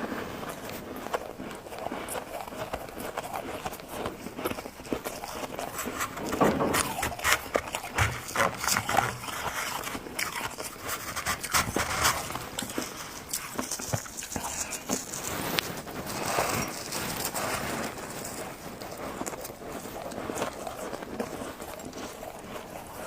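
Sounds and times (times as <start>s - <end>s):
frost crunching being chewed: 0.0s - 23.0s.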